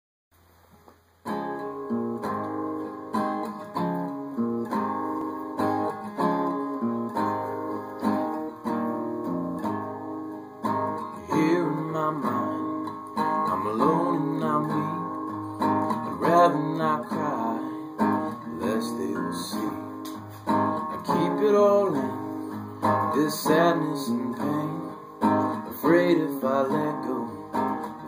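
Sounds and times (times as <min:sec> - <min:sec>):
acoustic guitar strumming: 0:00.4 - 0:28.0.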